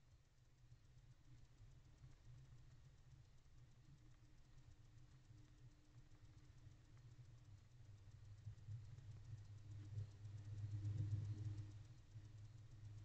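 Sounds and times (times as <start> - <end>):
faint low rumble: 0.2 - 13.0.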